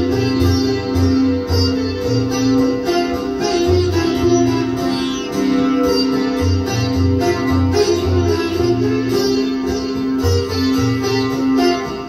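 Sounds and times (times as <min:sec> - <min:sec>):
sitar melody over drone: 0:00.0 - 0:12.0.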